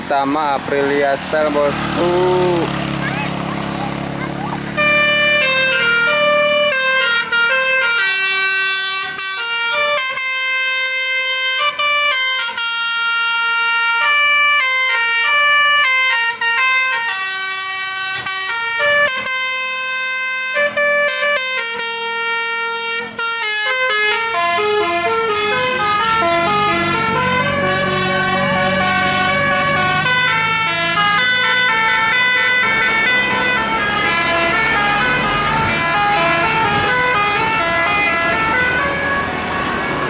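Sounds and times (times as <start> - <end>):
multi-tone bus horn melody: 4.6 - 40.0.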